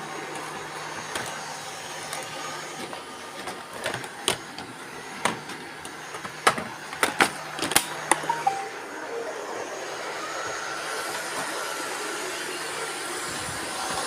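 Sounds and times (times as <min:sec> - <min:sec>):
robot vacuum cleaner whirring: 0:00.0 - 0:08.1, 0:09.0 - 0:14.0.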